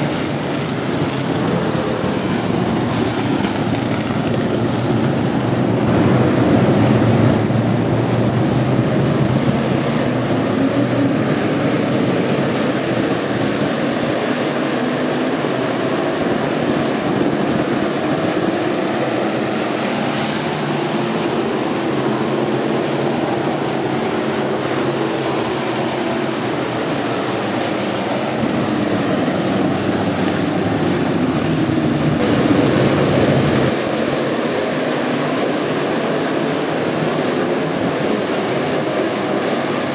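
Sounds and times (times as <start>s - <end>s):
many race car engines droning: 0.0s - 39.9s.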